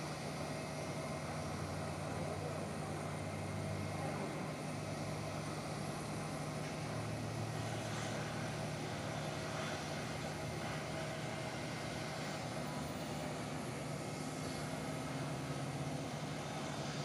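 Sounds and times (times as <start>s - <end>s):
airliner and tug humming: 0.0s - 17.0s.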